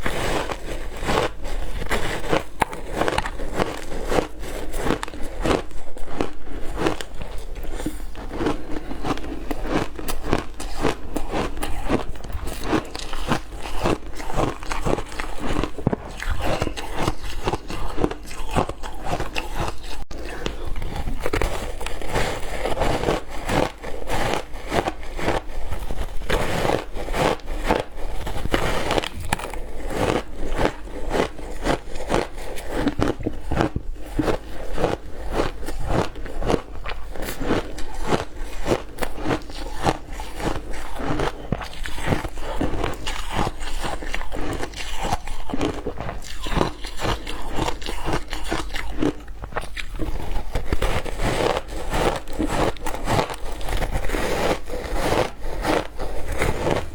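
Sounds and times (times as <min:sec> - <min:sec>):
person chewing ice: 0:00.0 - 0:56.9.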